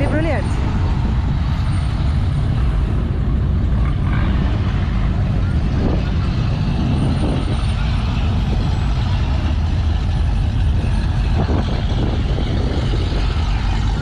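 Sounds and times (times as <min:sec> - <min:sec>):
car and truck engines rumbling: 0:00.0 - 0:14.0.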